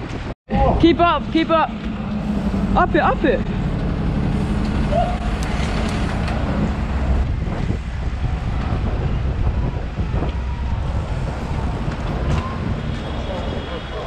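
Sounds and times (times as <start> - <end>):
city traffic: 0.0 - 14.0
wind noise on microphone: 0.0 - 14.0.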